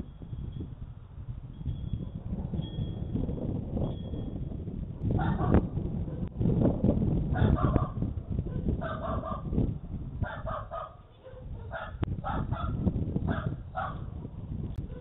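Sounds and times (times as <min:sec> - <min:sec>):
steady low rumble: 0:00.0 - 0:10.8, 0:11.4 - 0:15.0.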